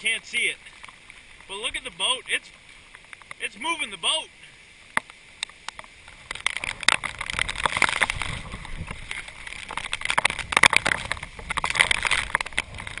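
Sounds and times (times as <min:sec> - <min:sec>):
storm wind and rain on microphone: 0:00.0 - 0:13.0.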